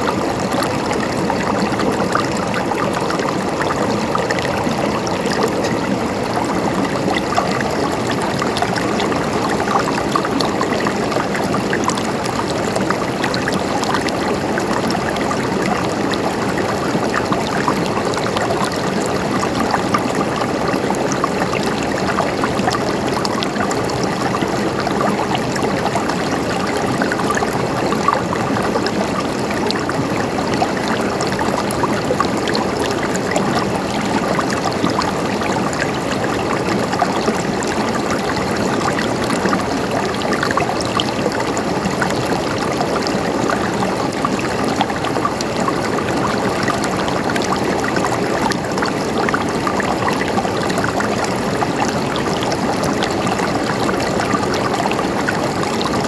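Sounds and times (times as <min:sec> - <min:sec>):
water flowing over streambed: 0:00.0 - 0:56.0.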